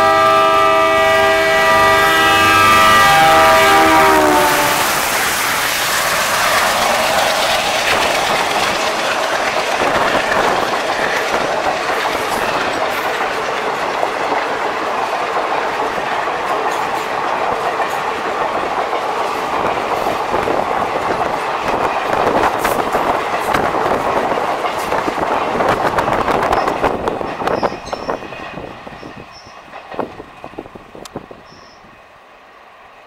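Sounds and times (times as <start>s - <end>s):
train coaches rushing past: 0.0s - 33.0s
wheels clacking over rail joints: 2.0s - 31.8s.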